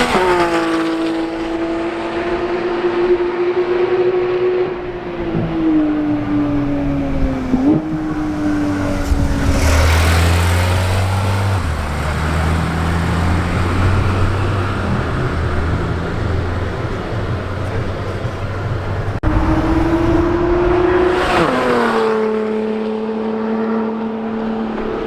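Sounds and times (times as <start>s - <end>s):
sports car engine: 0.0s - 25.0s.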